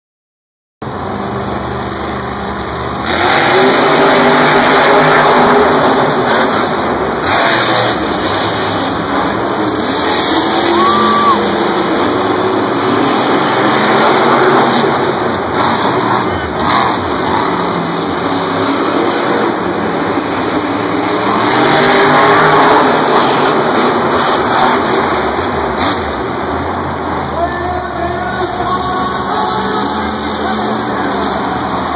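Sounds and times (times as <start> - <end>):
monster truck engines roaring: 0.8 - 31.9.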